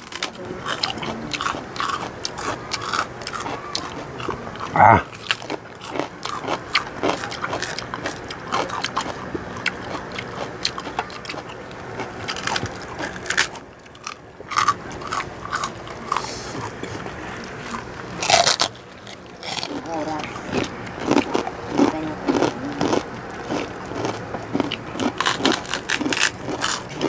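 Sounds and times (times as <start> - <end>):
people crunching crispy pork rinds: 0.0 - 27.0.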